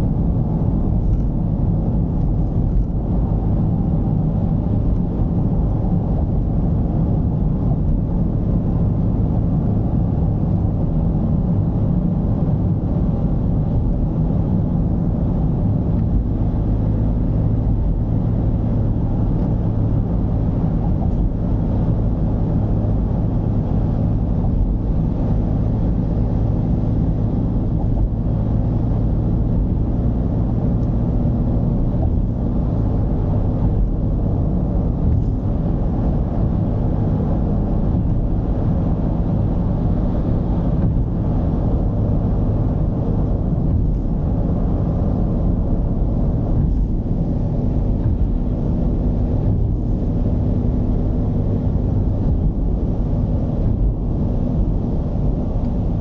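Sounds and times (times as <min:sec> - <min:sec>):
diesel engine droning: 0:00.0 - 0:56.0
road noise: 0:00.0 - 0:56.0.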